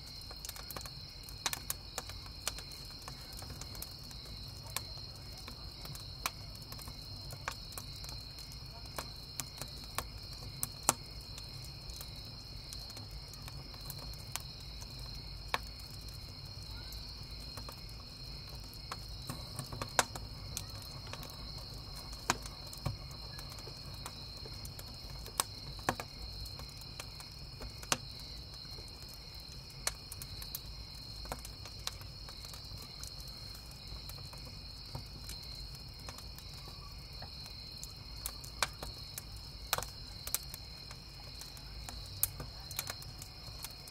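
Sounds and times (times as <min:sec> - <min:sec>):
campfire crackling and popping: 0:00.0 - 0:43.9
crickets chirping: 0:00.0 - 0:43.9.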